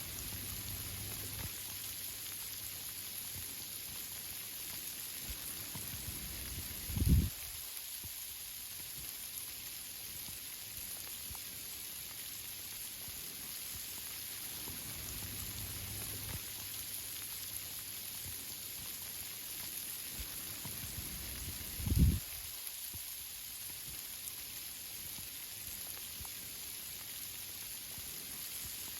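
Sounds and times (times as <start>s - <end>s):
rain on tree leaves: 0.0s - 28.9s.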